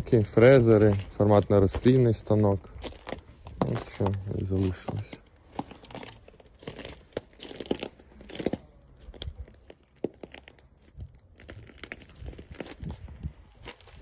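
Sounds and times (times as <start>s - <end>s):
footsteps crunching on debris: 0.0s - 14.0s.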